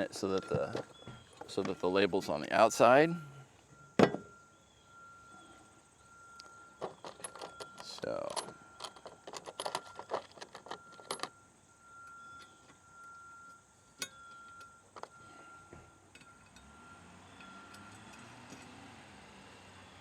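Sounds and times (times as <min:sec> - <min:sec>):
metal bolts and nuts clinking: 0:00.0 - 0:03.1, 0:03.7 - 0:04.5, 0:06.2 - 0:18.7.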